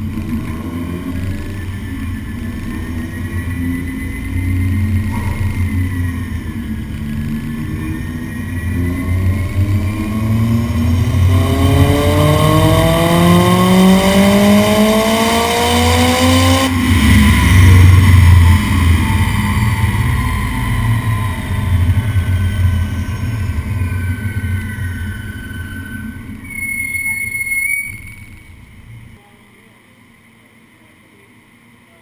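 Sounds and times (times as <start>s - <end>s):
car engine revving: 0.0s - 26.6s.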